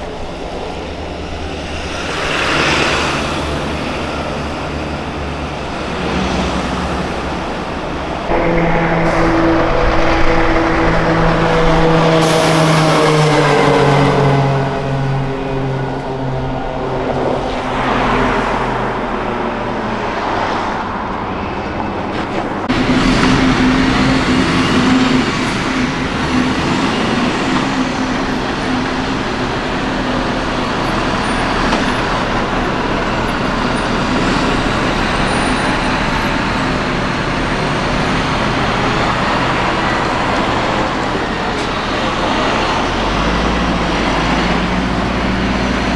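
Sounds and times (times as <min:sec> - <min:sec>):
heavy truck engines running: 0:00.0 - 0:45.9
road noise: 0:00.0 - 0:45.9
truck engine low drone: 0:00.0 - 0:45.9.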